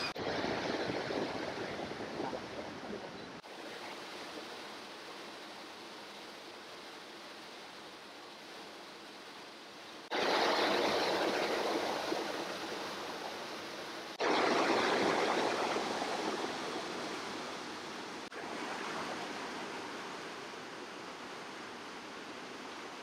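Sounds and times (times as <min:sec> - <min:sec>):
creek water rushing over boulders: 0:00.0 - 0:23.0.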